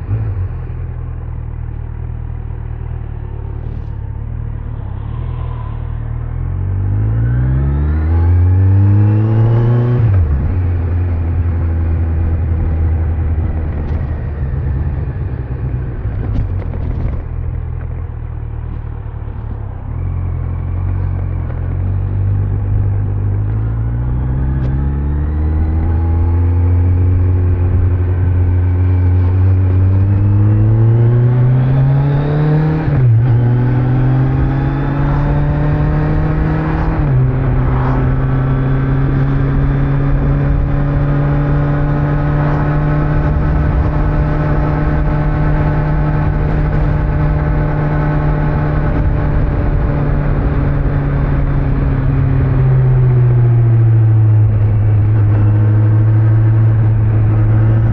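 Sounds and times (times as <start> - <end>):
wind and road noise: 0.0 - 57.9
motorcycle engine under way: 6.3 - 57.9.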